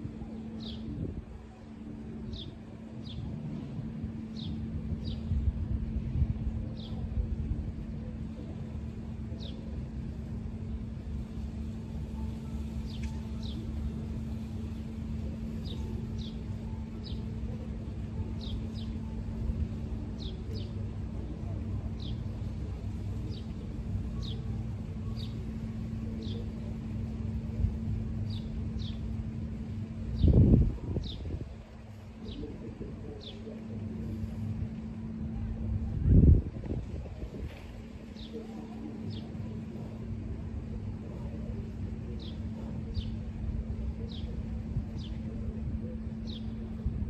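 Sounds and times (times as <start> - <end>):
constant hum: 0.0 - 47.0
low rumble: 0.0 - 47.0.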